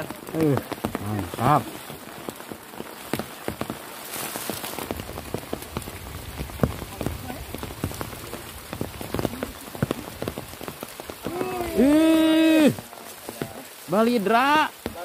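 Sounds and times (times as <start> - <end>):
heavy rain hissing: 0.0 - 15.0
raindrops tapping: 0.0 - 15.0.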